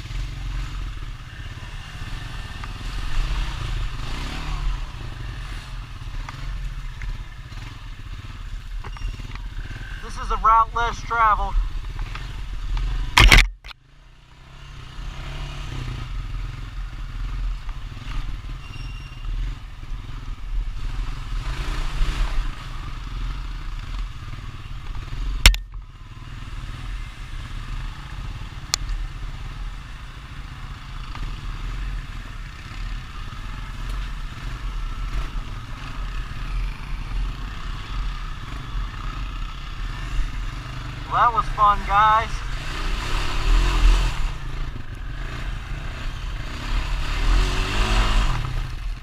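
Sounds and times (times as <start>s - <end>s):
atv engine rumbling: 0.0s - 49.0s.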